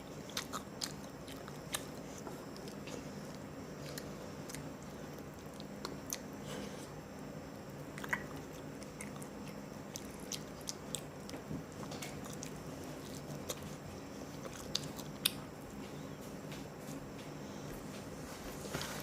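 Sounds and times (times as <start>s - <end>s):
chewing with wet mouth noises: 0.0s - 16.4s
low steady hum: 0.0s - 19.0s
crunchy snaps: 0.1s - 6.7s, 7.5s - 17.3s.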